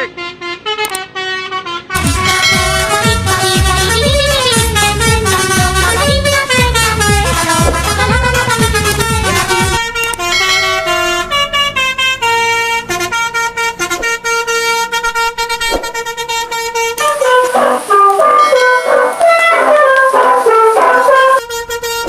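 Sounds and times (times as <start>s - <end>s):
engine rumbling: 0.0s - 18.5s
bus horn playing a melody: 0.0s - 22.0s.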